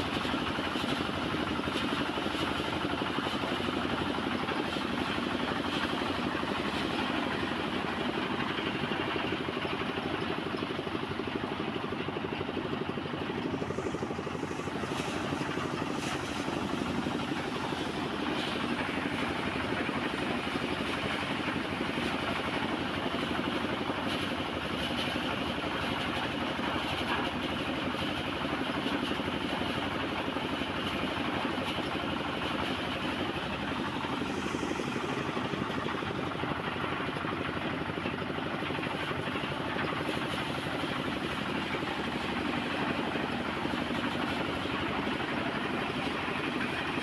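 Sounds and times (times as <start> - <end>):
harvesting machine engine running: 0.0 - 47.0.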